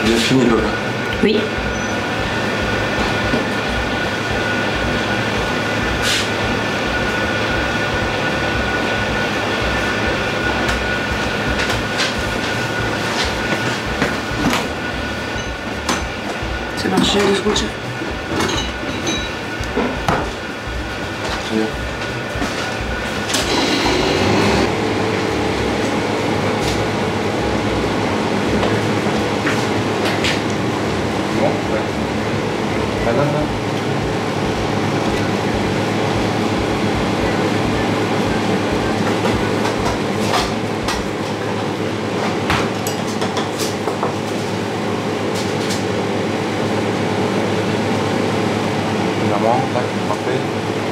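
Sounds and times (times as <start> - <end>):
thin steady whine: 0.0 - 42.4
kitchen ventilation running: 0.0 - 50.9.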